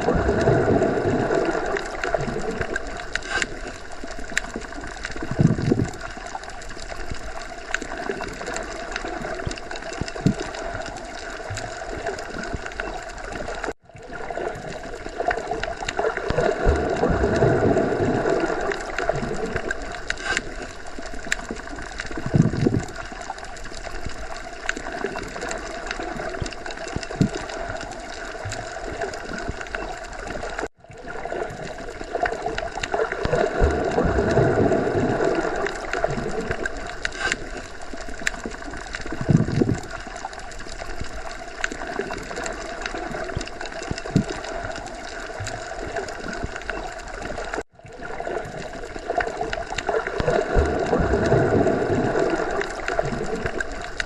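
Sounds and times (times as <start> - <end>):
underwater gurgling water: 0.0 - 54.0.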